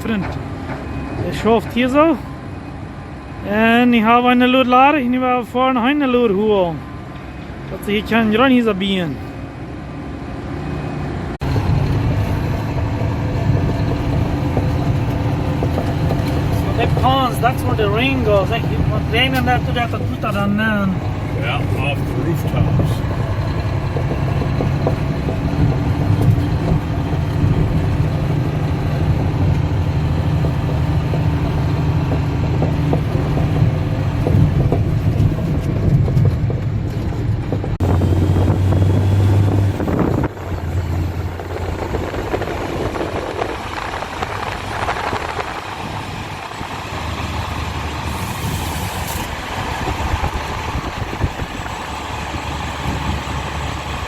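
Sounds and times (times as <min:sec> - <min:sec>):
dump truck diesel engine running: 0:00.0 - 0:54.0.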